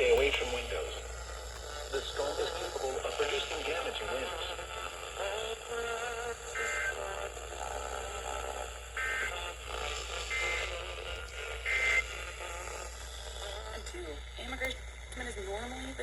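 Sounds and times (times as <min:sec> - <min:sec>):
program audio: 0:00.0 - 0:16.0.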